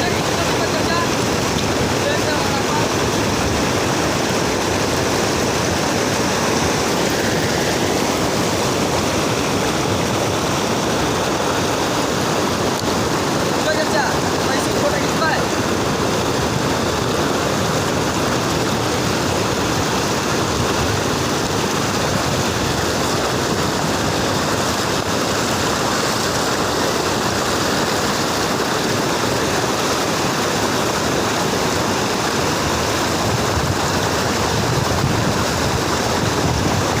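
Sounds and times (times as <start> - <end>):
floodwater rushing: 0.0 - 37.0.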